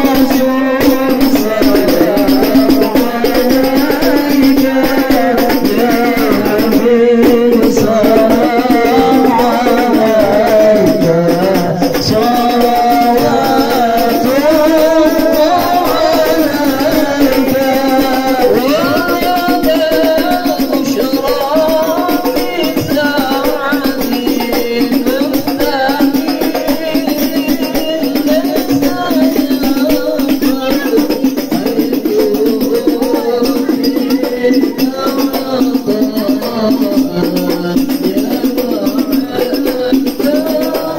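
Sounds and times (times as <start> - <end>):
man singing through loudspeakers: 0.0 - 40.9
steady percussion: 0.0 - 40.9.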